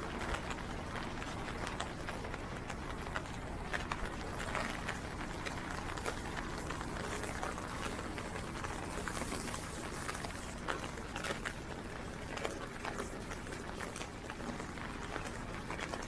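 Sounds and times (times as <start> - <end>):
rain drops tapping on umbrella: 0.0 - 16.0.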